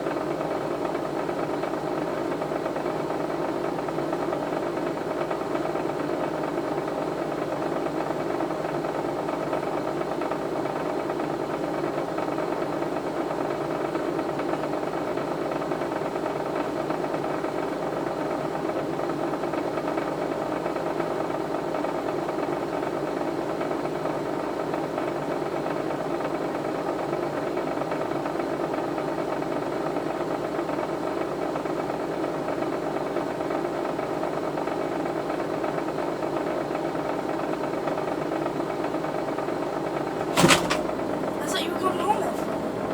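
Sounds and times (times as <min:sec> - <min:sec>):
mechanical hum with fine rattle: 0:00.0 - 0:42.9.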